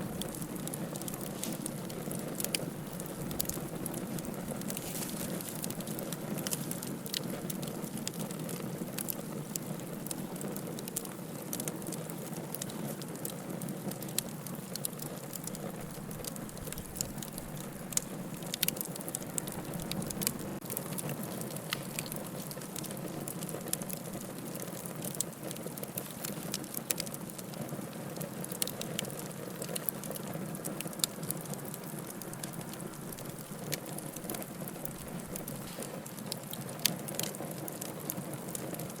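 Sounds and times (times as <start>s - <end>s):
fire burning with rushing hiss: 0.0s - 39.0s
fire crackles and pops: 0.0s - 39.0s.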